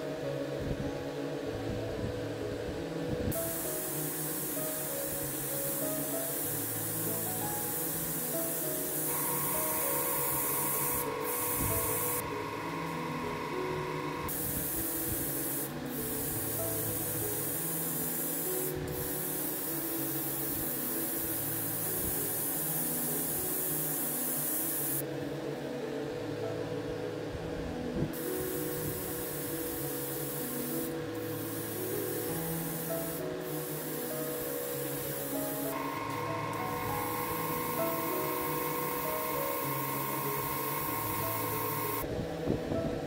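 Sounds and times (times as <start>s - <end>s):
background music: 0.0s - 43.0s
airbrush hissing: 3.3s - 25.0s, 28.2s - 42.1s.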